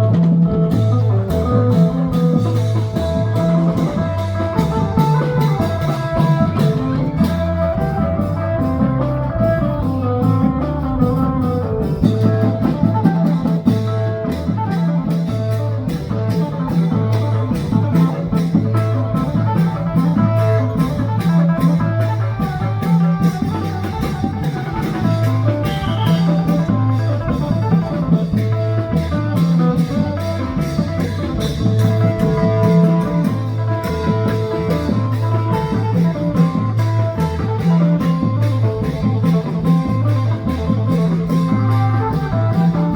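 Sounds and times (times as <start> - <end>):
bass: 0.0 - 42.9
drum kit beat: 0.0 - 42.9
plucked guitar melody: 0.0 - 42.9.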